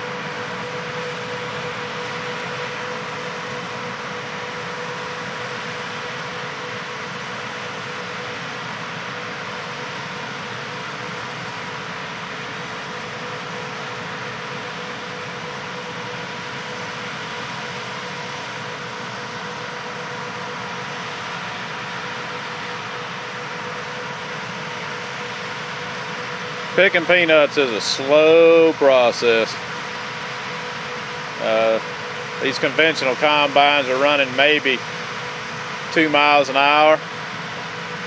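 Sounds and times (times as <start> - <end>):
tractor and combine rushing hum: 0.0 - 38.0.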